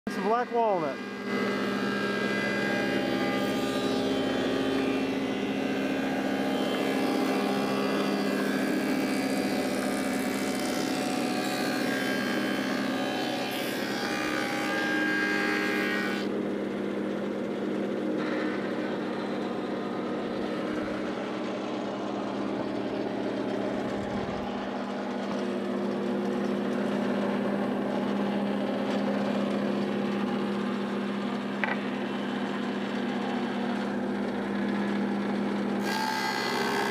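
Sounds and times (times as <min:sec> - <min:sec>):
planer cutting wood: 0:00.1 - 0:36.9
thickness planer motor hum: 0:00.1 - 0:36.9.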